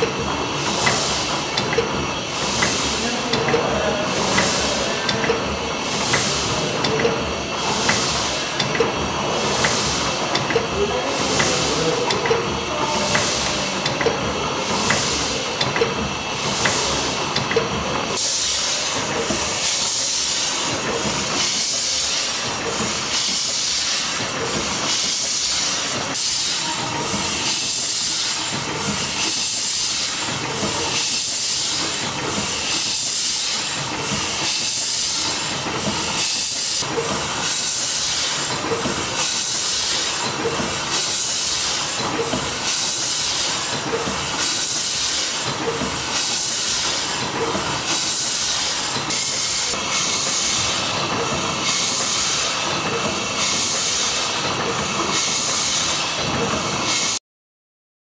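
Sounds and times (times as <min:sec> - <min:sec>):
steam engine exhaust hissing: 0:00.0 - 0:57.2.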